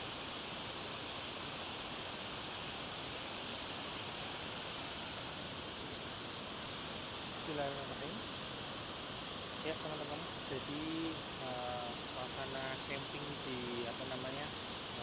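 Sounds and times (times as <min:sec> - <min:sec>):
waterfall rushing: 0:03.0 - 0:15.0.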